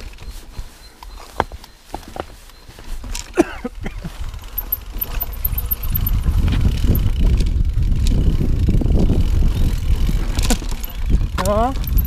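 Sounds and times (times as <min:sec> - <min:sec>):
bike tyres rumbling over stones: 0:00.0 - 0:12.0
bike rattling and knocking: 0:01.2 - 0:12.0.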